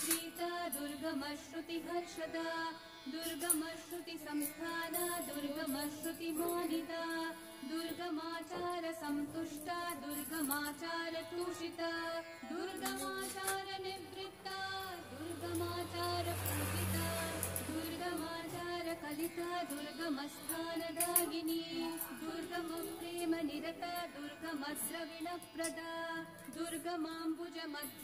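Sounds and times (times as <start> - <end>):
devotional singing with instruments: 0.0 - 28.0.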